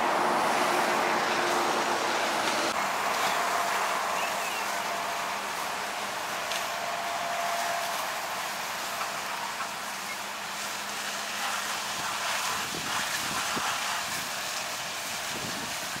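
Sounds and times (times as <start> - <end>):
hiss of water spray and steam: 0.0 - 16.0.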